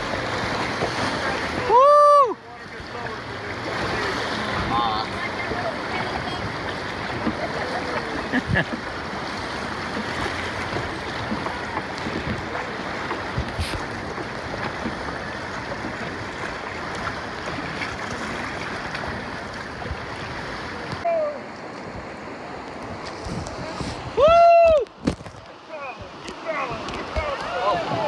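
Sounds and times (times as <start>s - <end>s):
river rapids rushing: 0.0s - 24.6s, 25.5s - 28.0s.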